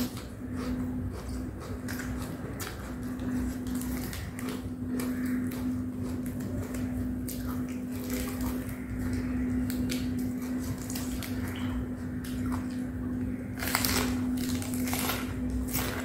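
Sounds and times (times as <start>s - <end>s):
eating leafy greens: 0.0s - 16.0s
steady low hum: 0.0s - 16.0s.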